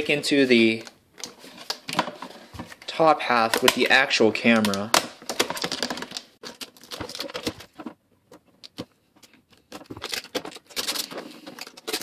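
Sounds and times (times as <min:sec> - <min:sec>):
plastic packaging clicking and crackling: 0:00.7 - 0:12.0.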